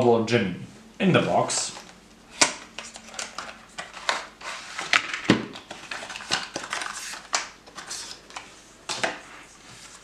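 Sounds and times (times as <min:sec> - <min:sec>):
cardboard and paper rustling: 0:01.3 - 0:10.0.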